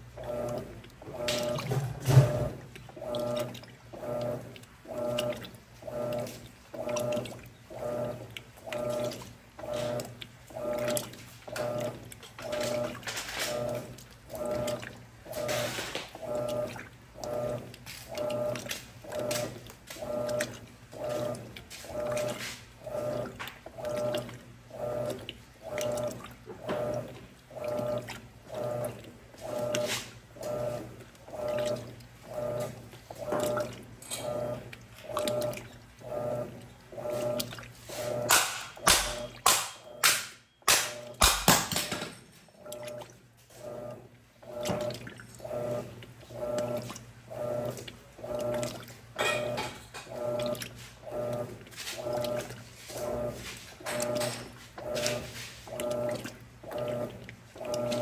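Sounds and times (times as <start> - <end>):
washing machine agitating: 0.0 - 58.0.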